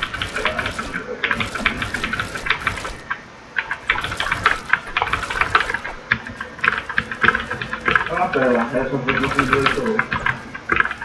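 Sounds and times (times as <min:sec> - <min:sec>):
computer keyboard typing: 0:00.0 - 0:11.0.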